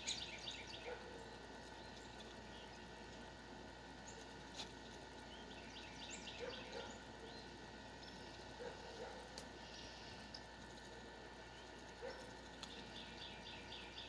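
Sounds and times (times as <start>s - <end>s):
geese bills clicking on grain: 0.0s - 14.0s.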